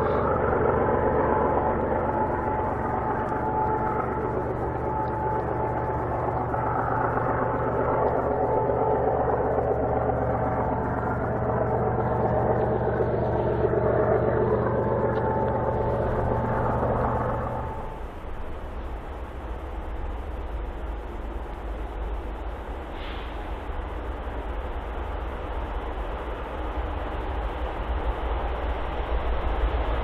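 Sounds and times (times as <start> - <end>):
freight train rumbling on rails: 0.0 - 30.0.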